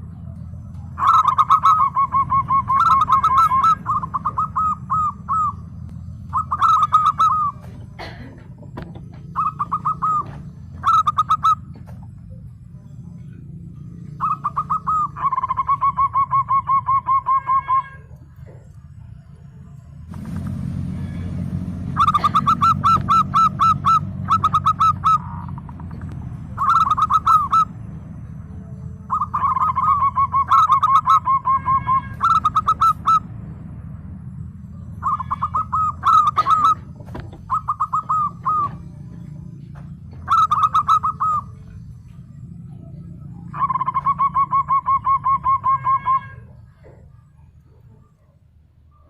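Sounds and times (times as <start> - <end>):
dove cooing: 0.0 - 19.1, 21.3 - 49.0
steady low hum: 0.0 - 49.0.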